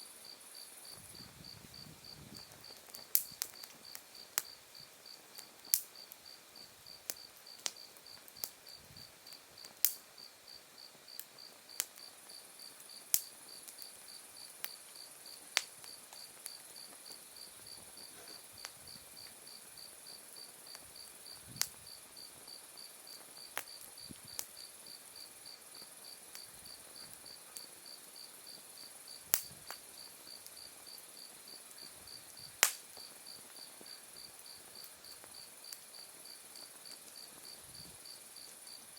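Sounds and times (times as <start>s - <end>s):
crickets chirping: 0.0s - 38.9s
wood fire crackling and popping: 0.6s - 25.0s, 25.6s - 38.9s.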